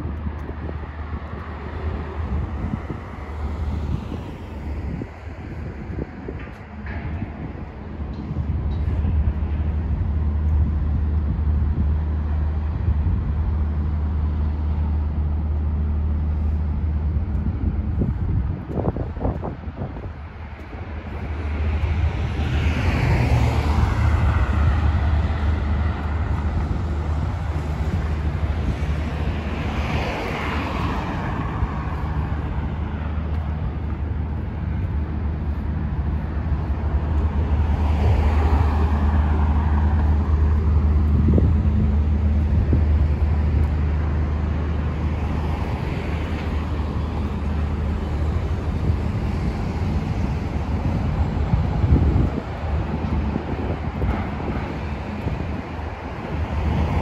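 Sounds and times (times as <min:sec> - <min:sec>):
cars passing by: 0:00.0 - 0:57.0
low traffic rumble: 0:00.0 - 0:57.0.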